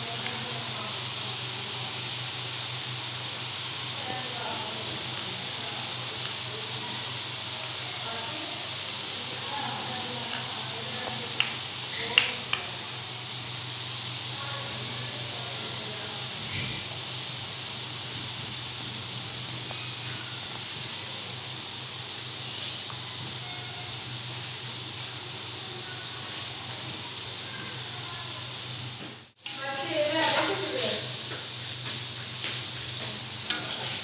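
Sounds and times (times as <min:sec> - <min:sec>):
batter frying in hot oil: 0:00.0 - 0:34.0.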